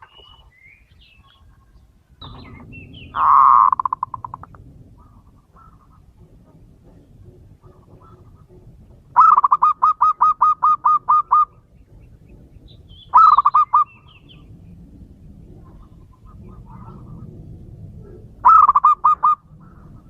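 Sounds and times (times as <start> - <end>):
dove cooing: 1.5 - 20.0.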